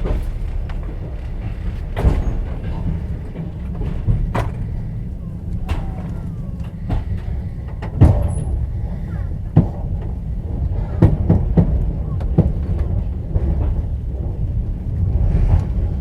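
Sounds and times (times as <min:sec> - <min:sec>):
train low rumble: 0:00.0 - 0:16.0
wheels clacking over rail joints: 0:00.0 - 0:16.0.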